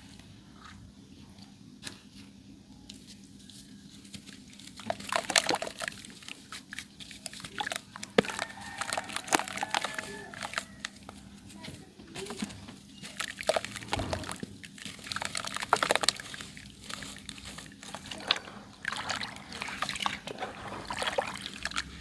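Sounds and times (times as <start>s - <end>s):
dry clay crumbling and crunching: 4.0s - 22.0s.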